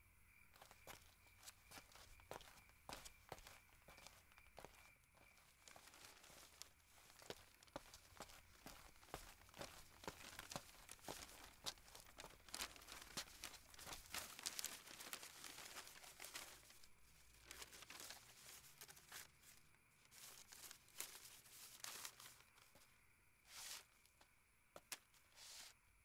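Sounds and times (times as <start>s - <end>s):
newspaper rustling: 0.6s - 22.9s, 23.5s - 24.0s, 24.8s - 25.7s.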